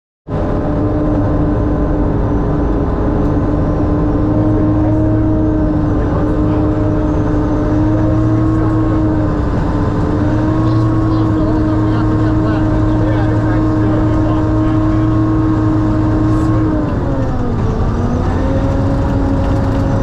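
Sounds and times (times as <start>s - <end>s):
diesel engine droning: 0.3s - 20.0s.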